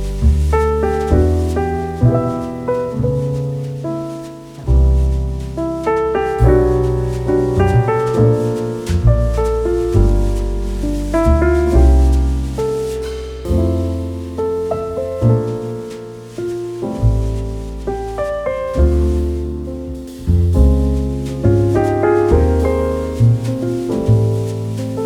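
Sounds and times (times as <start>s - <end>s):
calm piano music: 0.0s - 25.0s.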